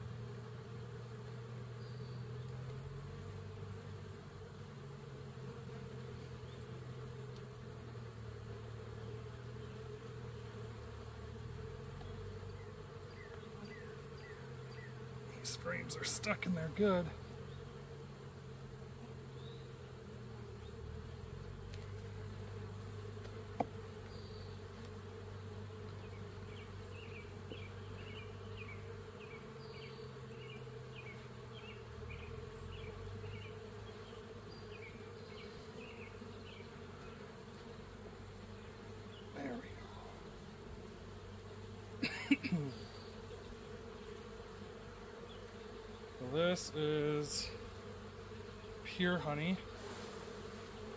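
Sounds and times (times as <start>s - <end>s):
honeybees buzzing: 0.0s - 50.9s.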